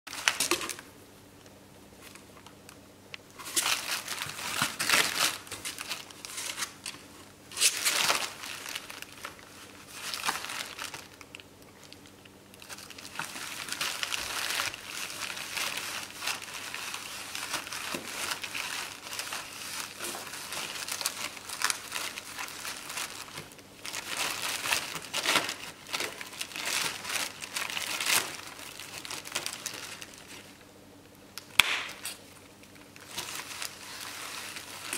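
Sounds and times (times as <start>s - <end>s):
bubble wrap crinkling: 0.1s - 0.9s, 2.0s - 30.7s, 31.4s - 34.9s.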